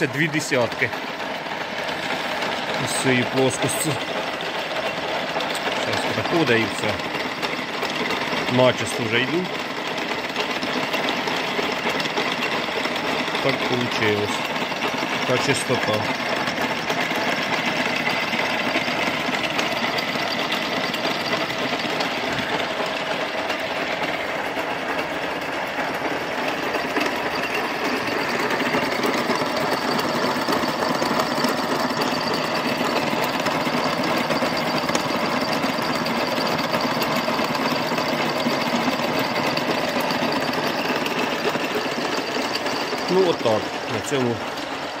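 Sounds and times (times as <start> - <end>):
milling machine rattling: 0.0 - 45.0.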